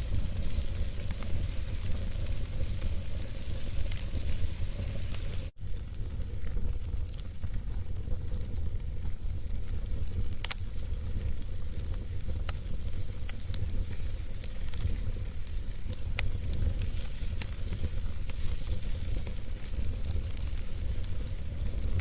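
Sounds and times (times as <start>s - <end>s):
fire crackling and popping: 0.0s - 22.0s
wood fire rumbling and hissing: 0.0s - 22.0s.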